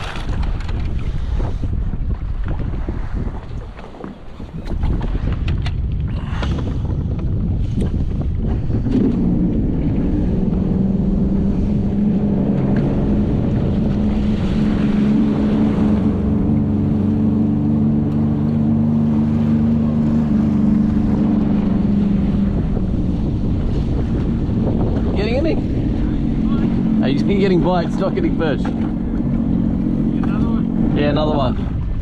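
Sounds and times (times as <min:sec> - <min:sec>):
jet ski engine running: 0:00.0 - 0:32.0
wind noise on microphone: 0:00.0 - 0:32.0.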